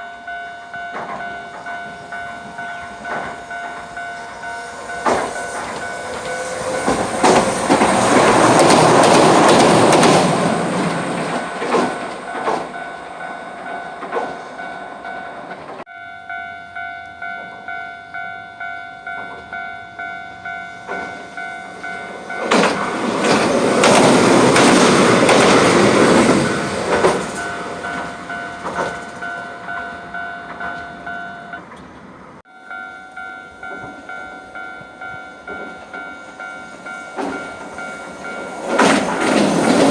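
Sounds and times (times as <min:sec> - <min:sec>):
level crossing bells clanging: 0:00.0 - 0:31.9, 0:32.5 - 0:39.9
train wheels rushing on rails: 0:00.3 - 0:15.9, 0:20.3 - 0:32.4, 0:33.1 - 0:39.9.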